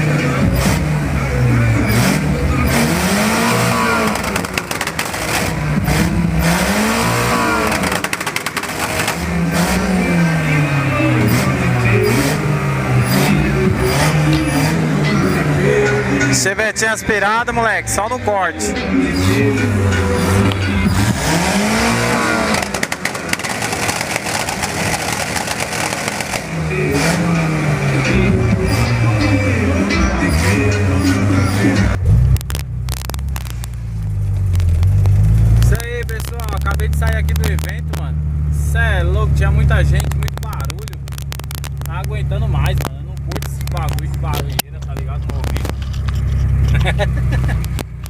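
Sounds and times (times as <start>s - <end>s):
car engine revving: 0.0s - 48.0s
engine stuttering on rev limiter: 0.0s - 48.0s
noisy background: 0.0s - 48.0s.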